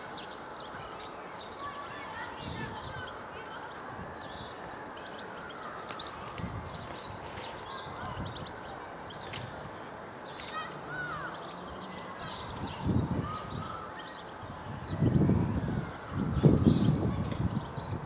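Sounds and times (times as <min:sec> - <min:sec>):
songbirds chirping: 0:00.0 - 0:18.0
steady outdoor hiss: 0:00.0 - 0:18.0.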